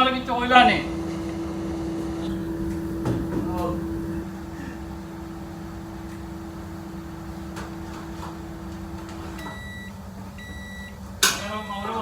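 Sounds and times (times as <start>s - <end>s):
appliance running hum: 0.0s - 12.0s
low kitchen hum: 0.0s - 12.0s.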